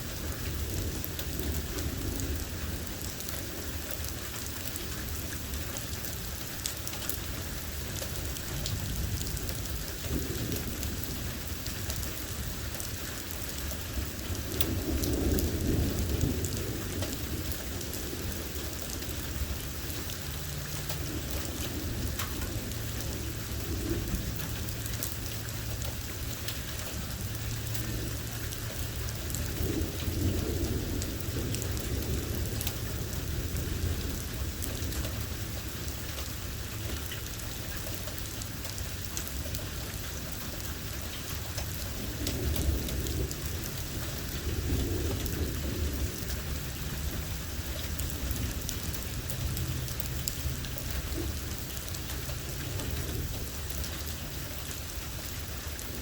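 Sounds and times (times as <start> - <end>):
low rolls of thunder: 0.0 - 4.1, 7.9 - 13.0, 13.6 - 56.0
heavy rain: 0.0 - 56.0.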